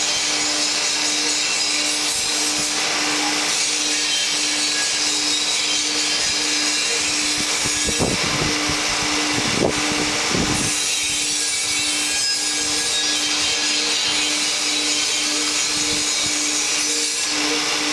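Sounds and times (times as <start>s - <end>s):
mechanical whir and hiss: 0.0s - 17.9s.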